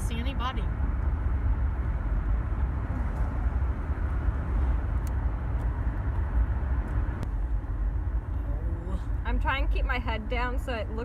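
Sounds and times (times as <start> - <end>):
car interior road rumble: 0.0 - 11.0
wind through open window: 0.0 - 11.0.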